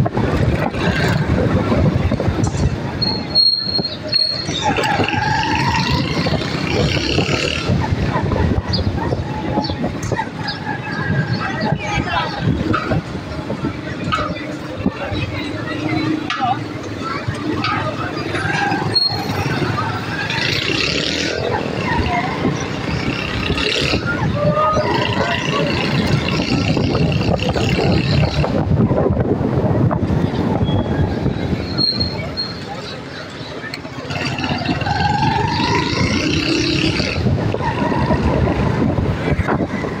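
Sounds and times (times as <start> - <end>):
motor traffic: 0.0 - 40.0
motorcycle rickshaws running: 0.0 - 40.0
road noise: 0.0 - 40.0
distant chatter of people: 0.3 - 40.0.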